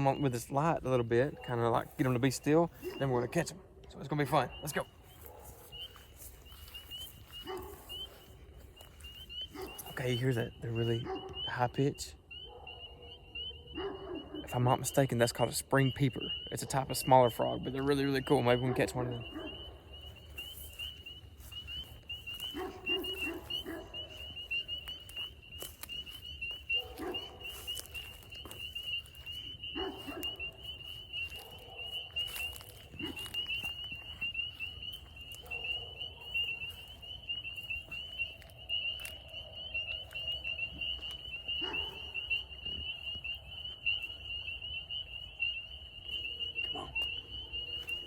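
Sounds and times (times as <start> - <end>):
frogs peeping in chorus: 0.0 - 48.0.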